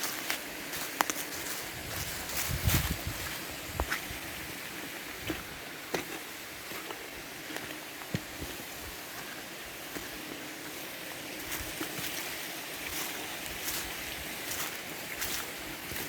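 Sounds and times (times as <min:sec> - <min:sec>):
footsteps crunching on path: 0:00.0 - 0:16.0
steady rushing hiss: 0:00.0 - 0:16.0.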